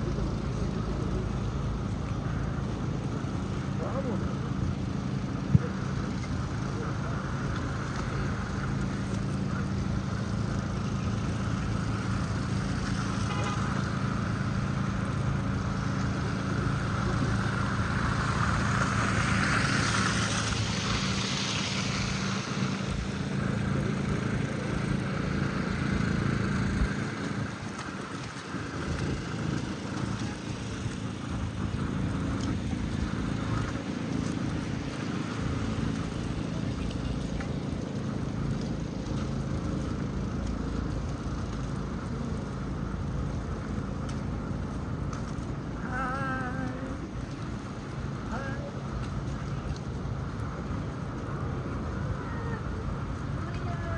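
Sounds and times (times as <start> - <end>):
traffic engine hum: 0.0 - 53.9
vehicle passing: 0.0 - 53.9.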